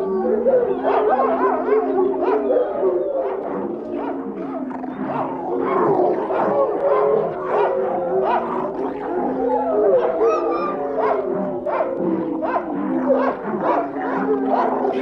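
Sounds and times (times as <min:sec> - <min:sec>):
canids howling: 0:00.0 - 0:15.0.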